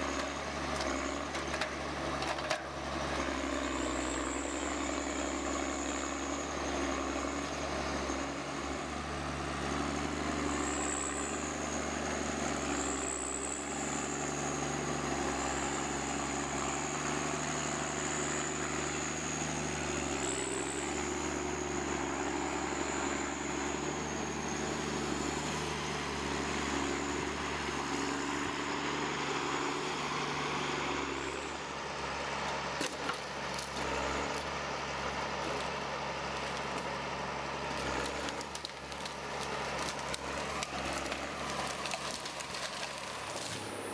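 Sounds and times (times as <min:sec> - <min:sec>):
machine engine whining: 0:00.0 - 0:43.9.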